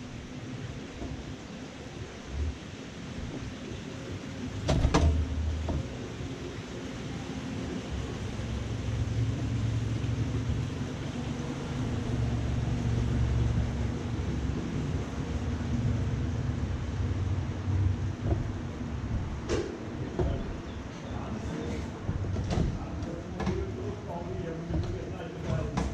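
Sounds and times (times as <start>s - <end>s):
coaster sled rumbling on rail: 0.0s - 25.9s.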